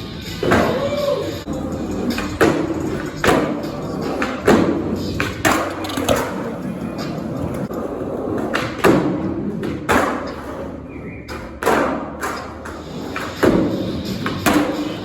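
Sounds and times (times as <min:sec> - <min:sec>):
skateboard wheels rolling: 0:00.0 - 0:15.0
skateboard slamming down: 0:02.0 - 0:10.7, 0:11.3 - 0:15.0.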